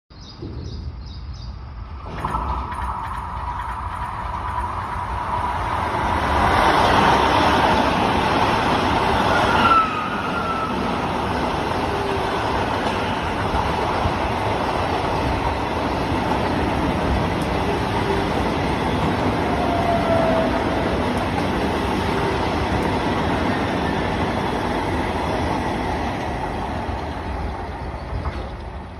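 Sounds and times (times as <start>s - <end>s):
train wheels rushing on rail: 1.8s - 28.9s.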